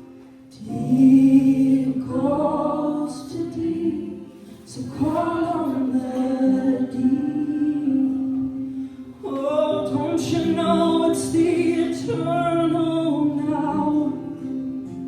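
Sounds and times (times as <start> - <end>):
voices singing worship song: 0.5 - 14.4.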